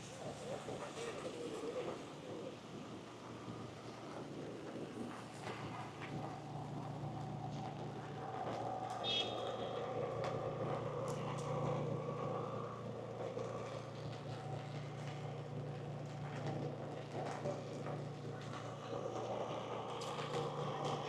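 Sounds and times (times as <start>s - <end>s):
traffic engines humming: 0.0s - 21.0s.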